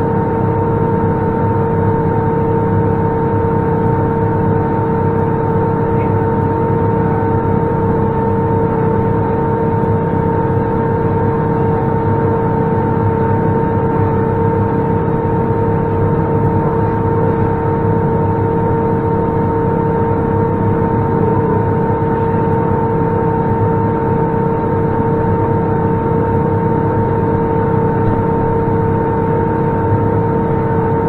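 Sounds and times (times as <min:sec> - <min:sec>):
tractor engine droning: 0:00.0 - 0:31.0.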